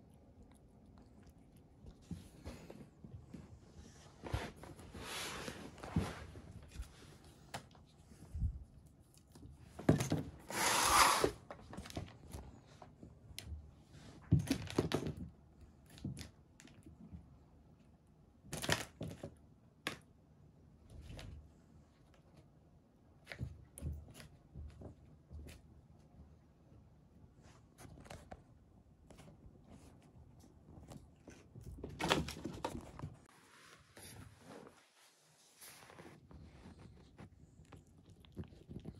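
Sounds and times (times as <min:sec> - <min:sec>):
cats play-fighting on a rug: 0:00.0 - 0:38.9.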